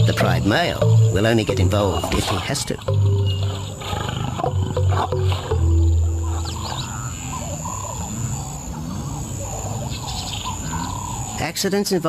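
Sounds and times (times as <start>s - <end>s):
lions growling: 0.0s - 11.4s
birds chirping: 0.0s - 12.0s.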